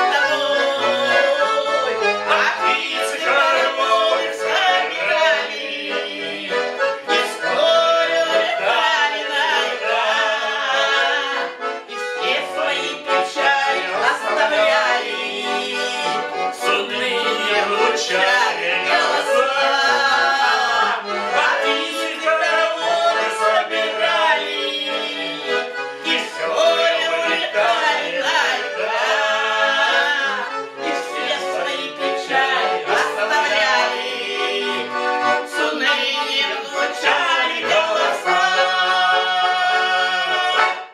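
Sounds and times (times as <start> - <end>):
man and woman singing loudly: 0.0 - 11.6, 12.2 - 34.9, 35.5 - 40.9
button accordion folk tune: 0.0 - 40.9.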